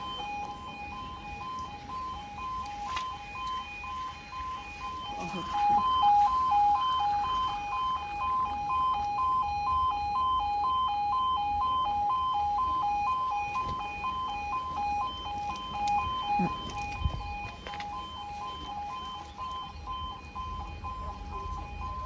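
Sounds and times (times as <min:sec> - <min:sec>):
two-tone crossing warning alarm: 0:00.0 - 0:22.0.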